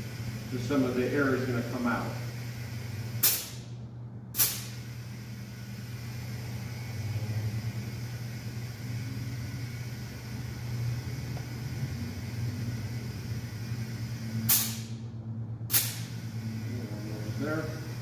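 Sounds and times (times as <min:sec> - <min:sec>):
compressed air hissing at tire valve: 0:00.0 - 0:15.1, 0:15.7 - 0:18.0.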